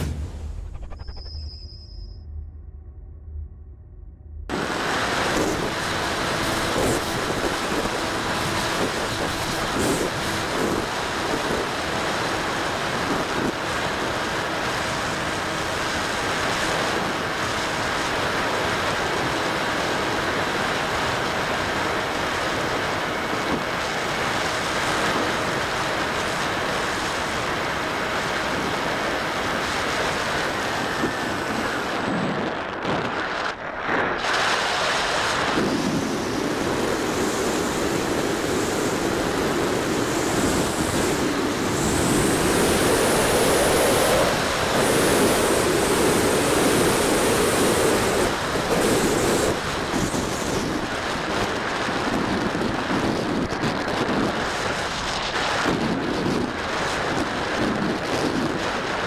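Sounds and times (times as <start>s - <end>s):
wind buffeting microphone: 4.5s - 59.0s.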